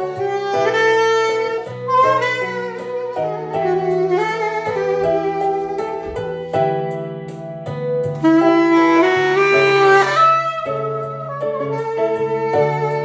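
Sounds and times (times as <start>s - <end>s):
soprano saxophone melody: 0.0s - 13.0s.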